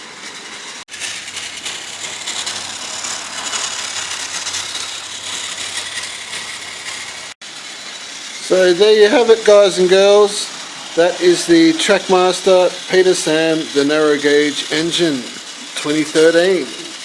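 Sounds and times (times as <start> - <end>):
gears and wheels clattering: 0.0 - 17.0
toy engine motor whirring: 0.0 - 17.0.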